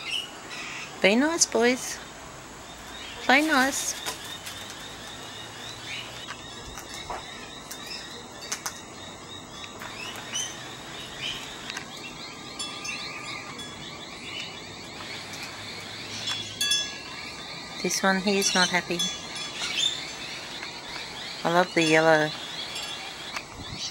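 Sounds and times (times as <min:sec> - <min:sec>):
birds chirping and twittering: 0:00.0 - 0:23.9.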